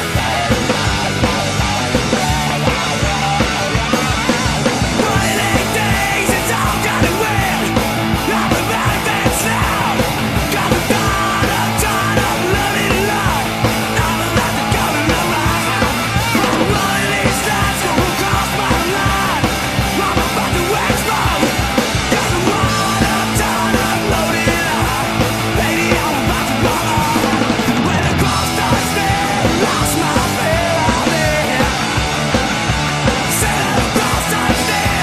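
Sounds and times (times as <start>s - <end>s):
rock song with vocals: 0.0s - 35.0s.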